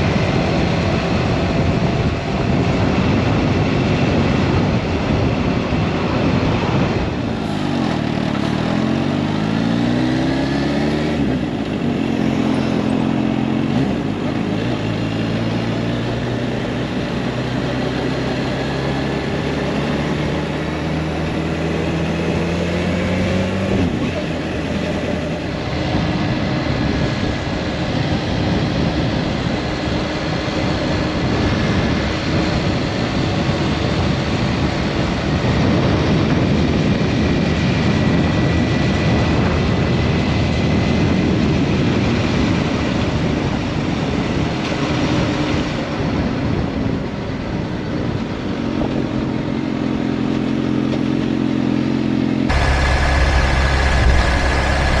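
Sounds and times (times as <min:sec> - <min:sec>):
wind noise on microphone: 0:00.0 - 0:51.2, 0:52.4 - 0:55.0
motorcycle engine accelerating: 0:00.0 - 0:55.0.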